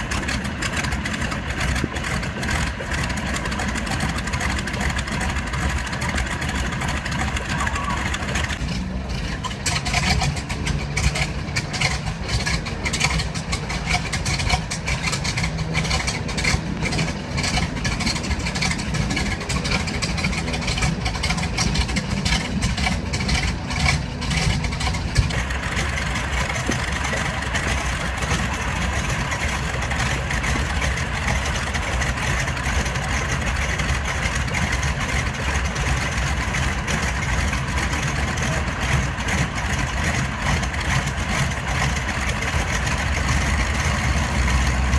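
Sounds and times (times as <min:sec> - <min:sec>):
radial engines running: 0:00.0 - 0:44.9.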